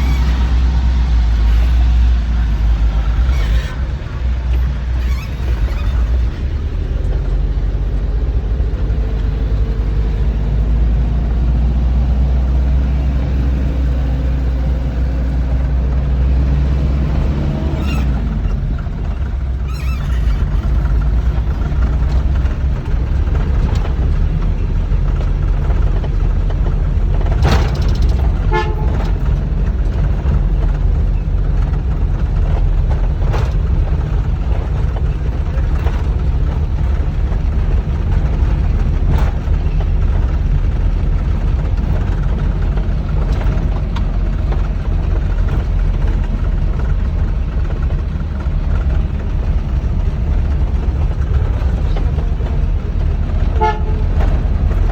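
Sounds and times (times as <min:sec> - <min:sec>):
harvester engine drone: 0:00.0 - 0:54.9.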